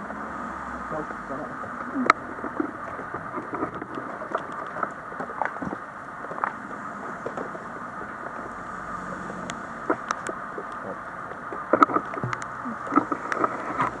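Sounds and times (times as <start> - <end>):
rushing background noise: 0.0 - 14.0
knocks and crackles: 1.0 - 14.0.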